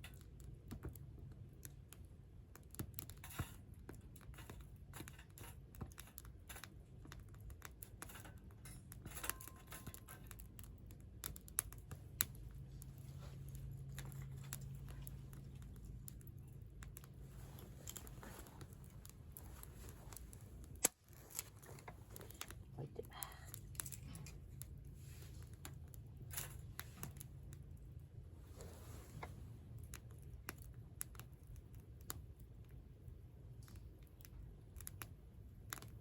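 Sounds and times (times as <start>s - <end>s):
campfire crackling and popping: 0.0s - 36.0s
faint low rumble: 6.9s - 36.0s.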